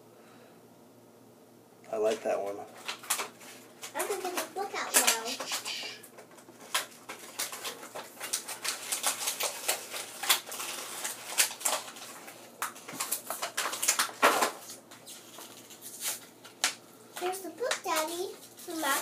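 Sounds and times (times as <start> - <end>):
plastic packaging crinkling: 2.7 - 19.0.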